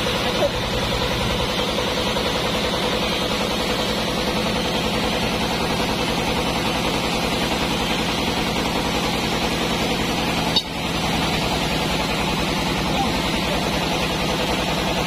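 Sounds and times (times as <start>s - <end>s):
sawmill machinery droning: 0.0s - 15.0s.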